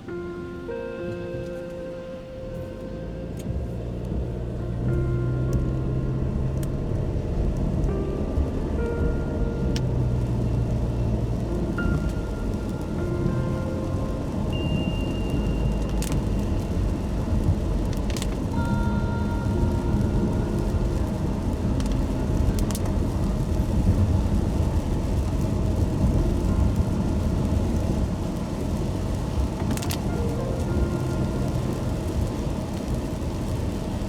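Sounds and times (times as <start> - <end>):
car tyres on wet road: 0.0 - 34.0.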